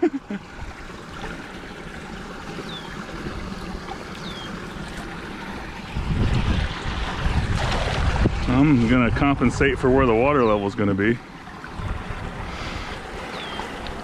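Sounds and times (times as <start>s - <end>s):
water rushing through a pipe: 0.0s - 14.0s.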